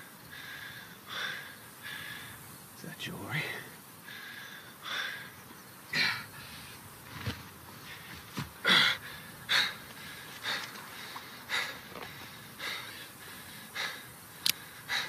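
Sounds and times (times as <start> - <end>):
man breathing heavily: 0.0 - 15.0.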